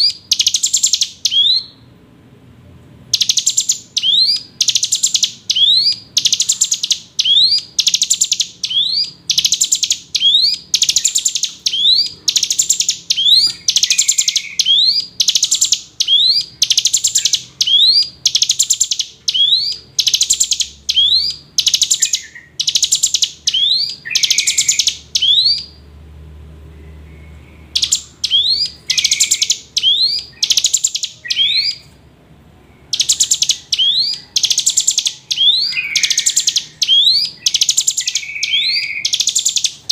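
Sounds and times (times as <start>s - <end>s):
bird singing buzzy trills: 0.0s - 2.1s, 3.0s - 39.9s.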